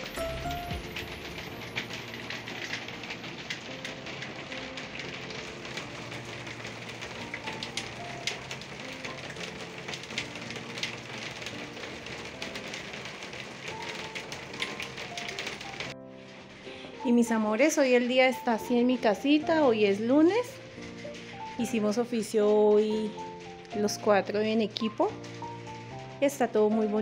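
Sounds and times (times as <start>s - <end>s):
rain on a glass roof: 0.0s - 27.0s.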